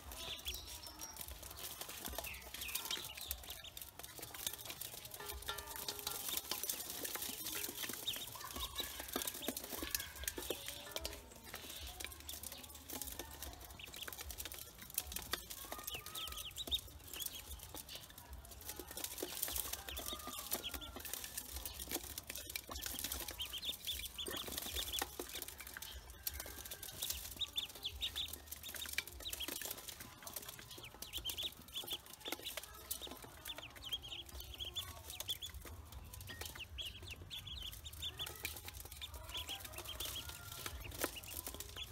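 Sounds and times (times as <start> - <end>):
bills pecking in a metal bowl: 0.0 - 41.9
ducklings peeping: 0.0 - 41.9.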